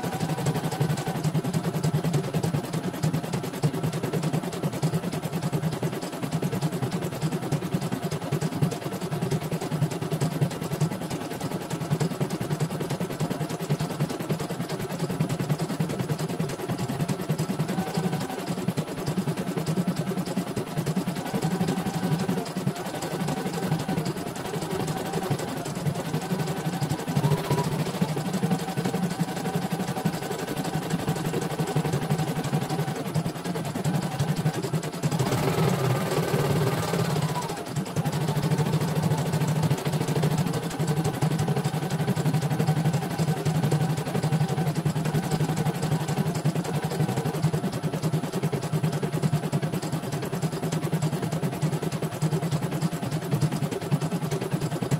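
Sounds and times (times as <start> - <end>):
embroidery machine stitching: 0.0 - 54.9
motor hum: 0.0 - 54.9.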